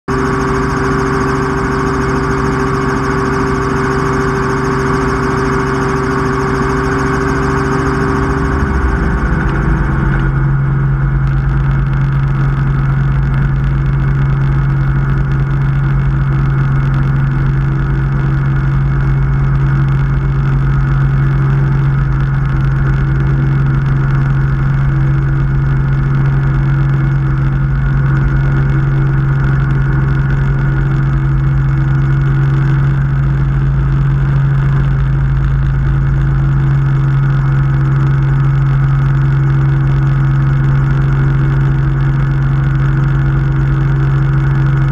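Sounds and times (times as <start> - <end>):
helicopter engine and rotor running: 0.0 - 44.9.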